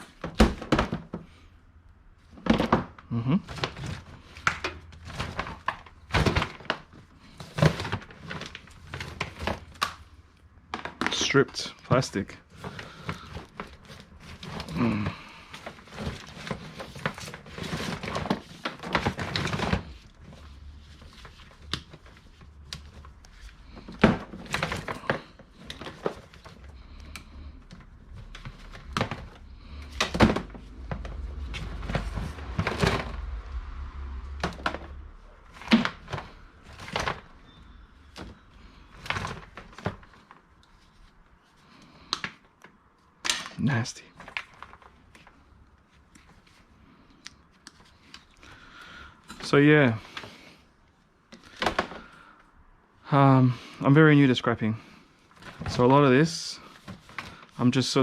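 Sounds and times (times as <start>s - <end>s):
scraping and crinkling: 2.2s - 43.2s, 44.0s - 50.6s, 54.7s - 58.0s.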